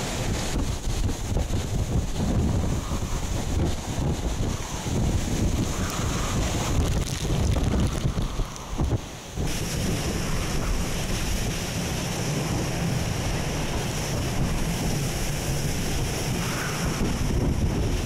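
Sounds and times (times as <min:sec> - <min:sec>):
rain hissing: 0:00.0 - 0:18.0
wind buffeting microphone: 0:00.0 - 0:18.0.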